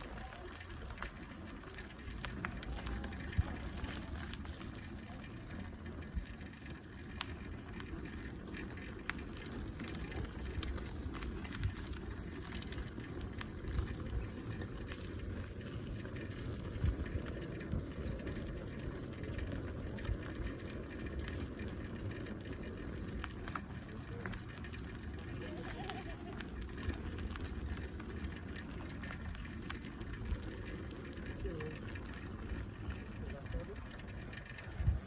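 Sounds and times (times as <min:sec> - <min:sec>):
bicycle rolling rumble: 0:00.0 - 0:35.0
small clicks and rattles: 0:00.0 - 0:35.0.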